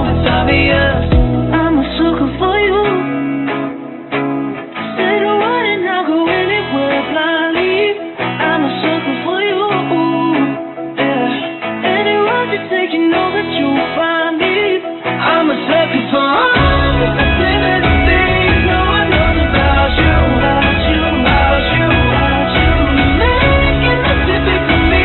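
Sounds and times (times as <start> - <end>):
woman singing: 0.0 - 3.8, 4.8 - 25.0
strummed acoustic guitar: 0.0 - 25.0.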